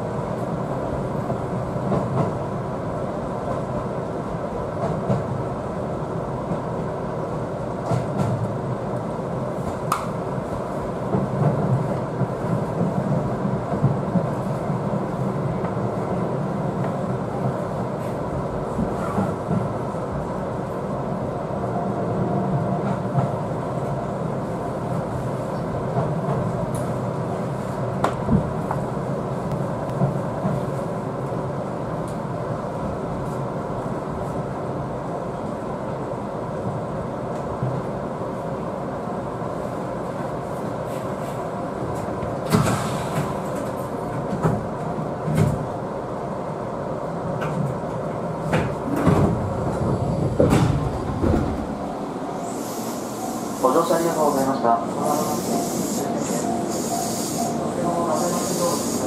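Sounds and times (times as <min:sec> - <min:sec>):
electric train rumble: 0:00.0 - 0:59.0.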